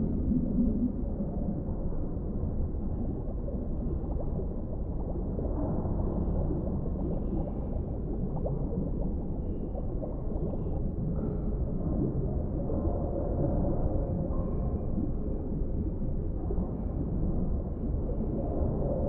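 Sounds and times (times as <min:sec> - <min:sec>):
bubbling gurgles: 0:00.0 - 0:19.0
muffled rush of deep water: 0:00.0 - 0:19.0.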